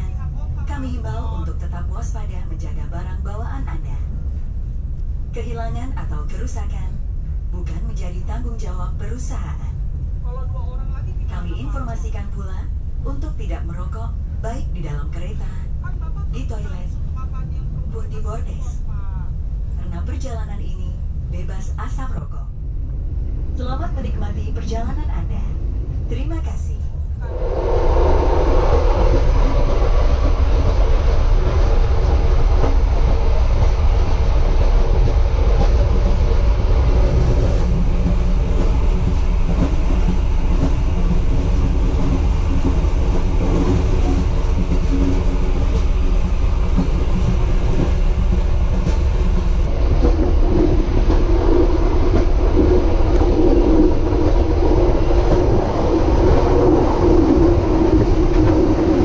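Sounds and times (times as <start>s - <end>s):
droning hum: 0.0s - 59.0s
train wheels rumbling on rail: 0.0s - 59.0s.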